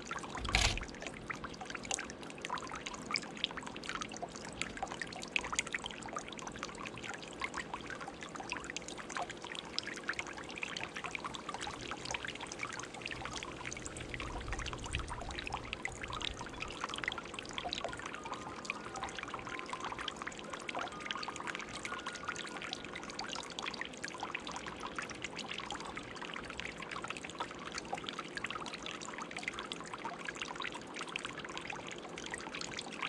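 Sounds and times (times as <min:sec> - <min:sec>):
fountain water trickling and splashing: 0:00.0 - 0:33.0.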